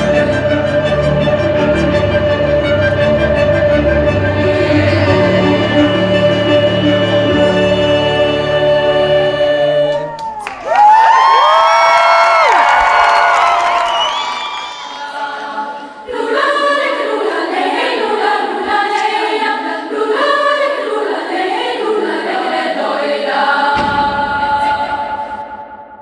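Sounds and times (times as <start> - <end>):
choir singing in harmony: 0.0 - 10.2, 14.5 - 26.0.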